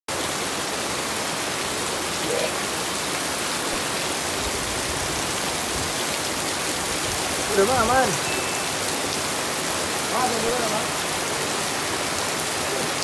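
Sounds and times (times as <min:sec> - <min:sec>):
heavy rain on floodwater: 0:00.1 - 0:13.0.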